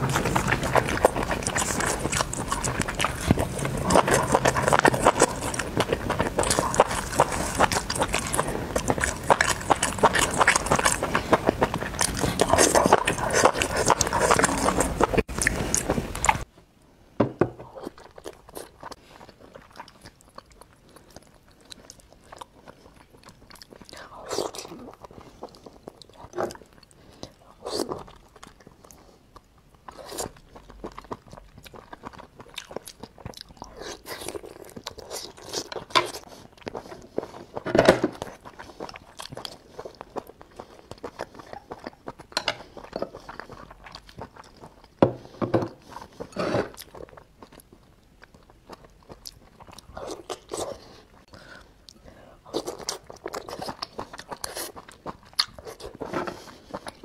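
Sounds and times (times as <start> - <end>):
loud crunching and chewing: 0.0 - 16.5, 17.8 - 45.0, 45.7 - 57.0
quiet chewing with mouth clicks: 0.0 - 16.5, 17.7 - 57.0.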